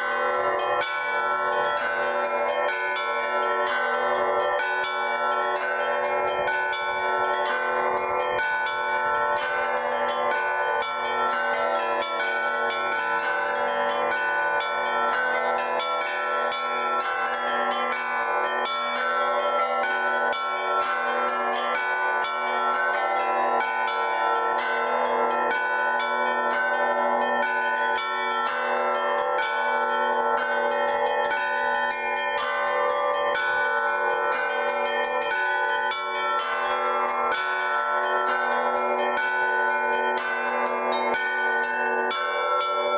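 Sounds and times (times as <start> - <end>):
large bells sustained tones: 0.0 - 42.9
small bells rapid strikes: 0.0 - 42.9.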